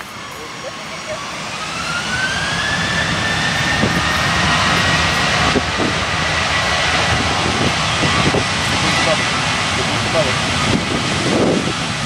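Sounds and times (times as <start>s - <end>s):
high fan whine: 0.0s - 12.0s
jet engine roar: 0.0s - 12.0s.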